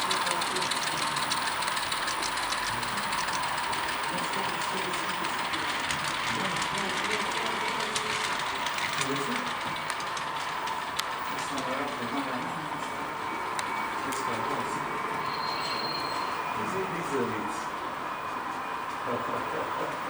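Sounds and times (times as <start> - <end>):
model trains humming: 0.0 - 20.0
murmur of voices: 0.0 - 20.0
small trains clicking and rattling: 0.0 - 20.0.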